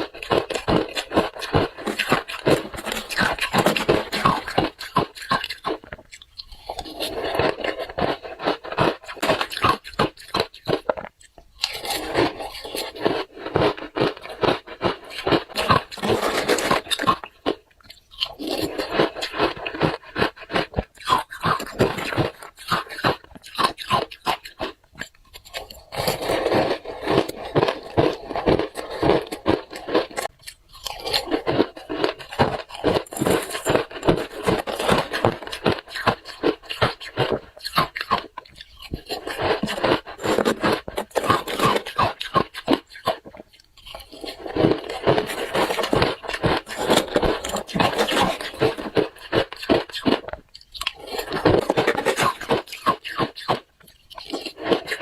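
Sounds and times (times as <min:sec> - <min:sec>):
chewing hard ice: 0:00.0 - 0:55.0.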